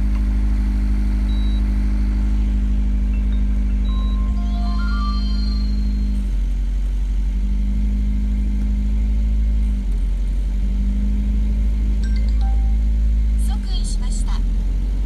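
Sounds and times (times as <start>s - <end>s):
wheel hub droning hum: 0.0s - 13.6s.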